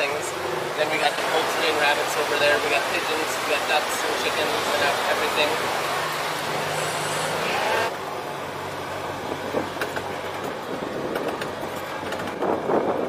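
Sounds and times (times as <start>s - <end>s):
road noise: 0.0s - 13.0s
utility vehicle motor hum: 0.0s - 13.0s.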